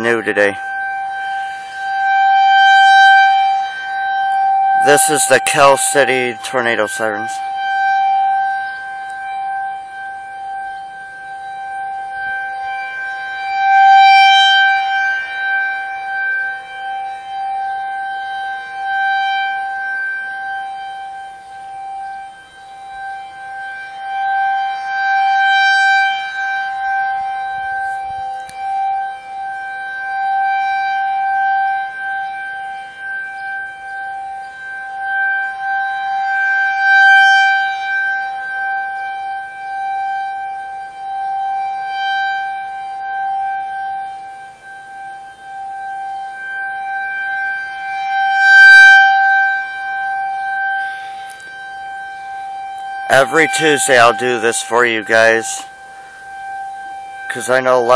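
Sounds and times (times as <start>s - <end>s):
warning siren steady tone: 0.0s - 57.9s.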